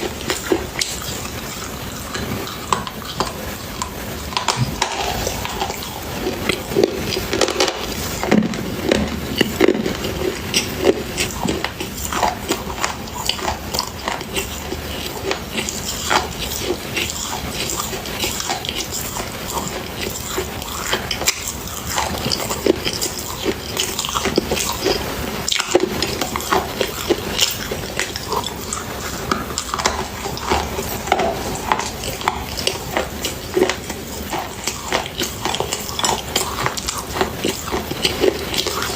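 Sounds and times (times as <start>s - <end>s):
crunchy biting and chewing: 0.0s - 38.9s.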